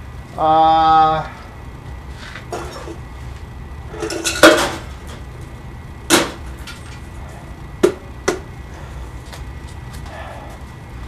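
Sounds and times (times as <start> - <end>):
furnace burner rumbling: 0.0 - 11.0.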